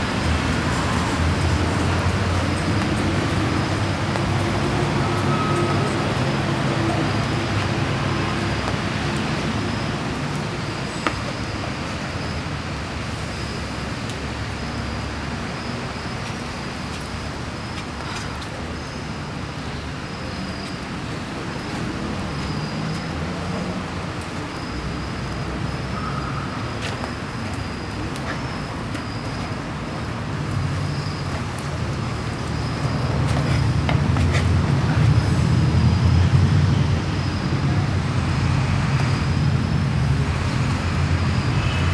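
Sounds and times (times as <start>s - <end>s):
city traffic rumble: 0.0s - 41.9s.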